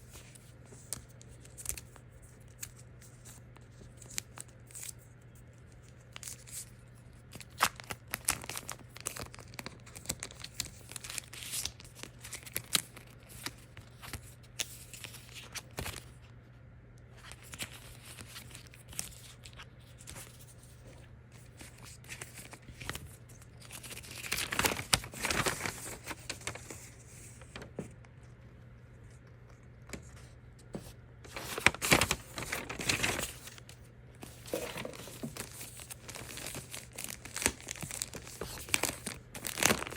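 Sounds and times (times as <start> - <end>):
wrapping crinkling and tearing: 0.0 - 16.2, 17.2 - 27.8, 31.3 - 39.9.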